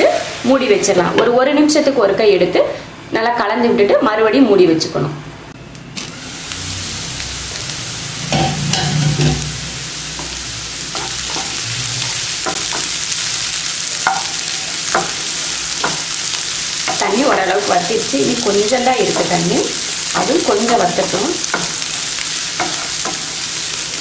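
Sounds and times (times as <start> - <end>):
vegetables sizzling in frying pan: 0.0 - 1.9, 5.9 - 24.0.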